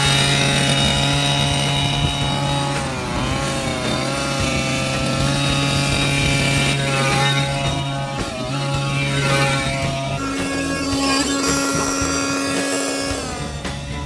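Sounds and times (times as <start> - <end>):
small two-stroke engine running: 0.0 - 14.0.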